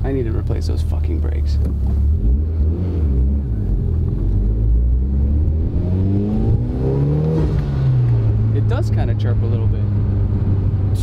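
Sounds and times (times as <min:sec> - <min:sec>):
car engine revving: 0:01.4 - 0:11.0.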